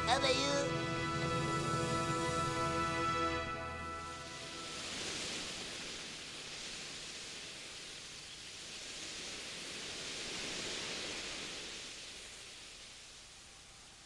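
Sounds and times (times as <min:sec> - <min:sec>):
soft wind blowing: 0:00.0 - 0:14.0.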